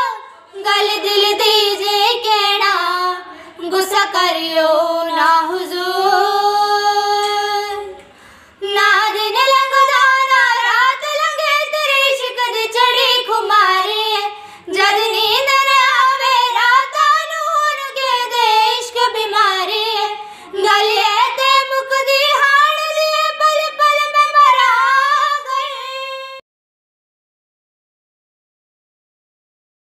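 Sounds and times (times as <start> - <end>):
women singing unaccompanied: 0.0 - 26.4.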